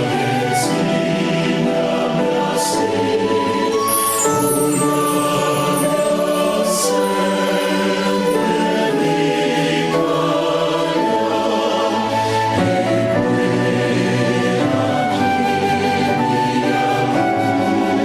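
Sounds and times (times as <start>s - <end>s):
choir singing church music: 0.0s - 18.0s.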